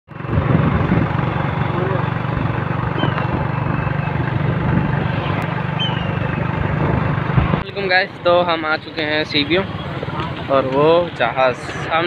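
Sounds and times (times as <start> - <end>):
road noise: 0.1 - 12.0
vehicle engine droning: 0.1 - 12.0
wind: 0.1 - 12.0.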